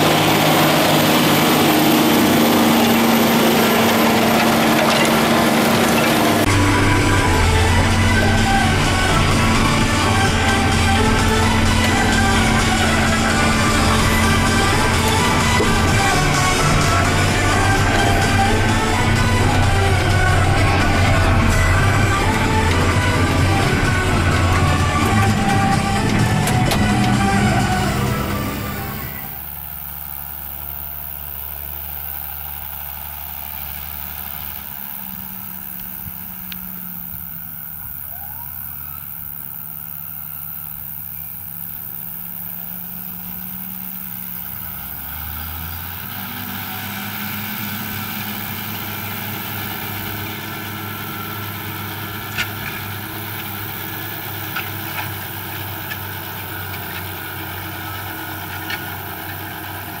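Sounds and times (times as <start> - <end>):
tractor diesel engine running: 0.0 - 60.0.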